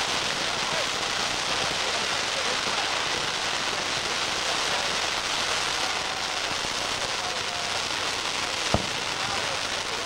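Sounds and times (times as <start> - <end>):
firework fountains hissing: 0.0 - 10.0.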